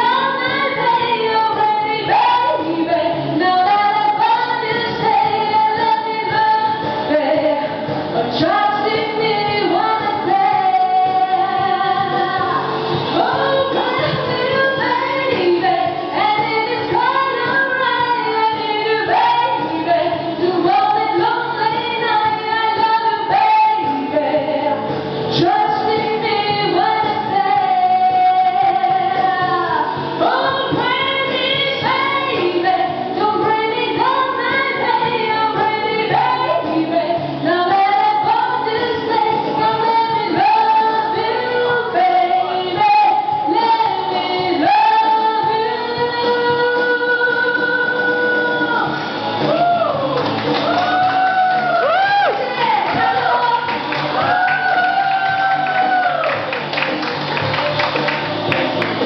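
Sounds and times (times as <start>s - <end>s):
woman singing into microphone: 0.0s - 56.6s
backing music: 0.0s - 59.0s.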